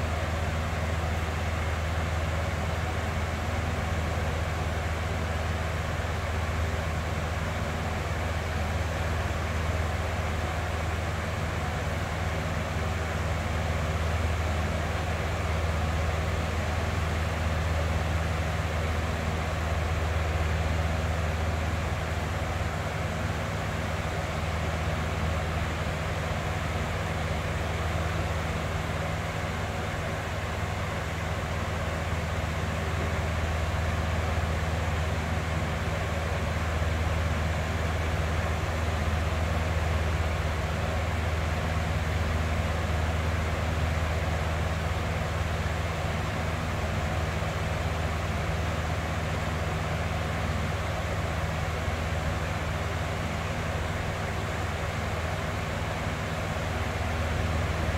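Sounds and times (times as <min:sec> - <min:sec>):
box fan running: 0:00.0 - 0:57.9.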